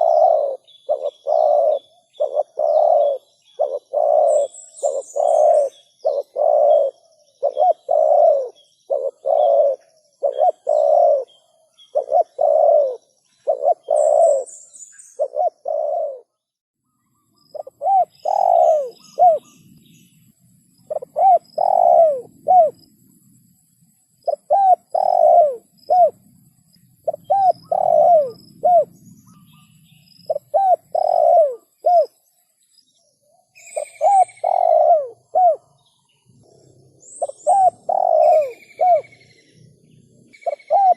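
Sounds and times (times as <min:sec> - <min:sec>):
dove cooing: 0:00.0 - 0:16.4, 0:17.5 - 0:19.7, 0:20.8 - 0:22.9, 0:24.2 - 0:26.3, 0:27.0 - 0:29.7, 0:30.3 - 0:32.2, 0:33.6 - 0:40.9.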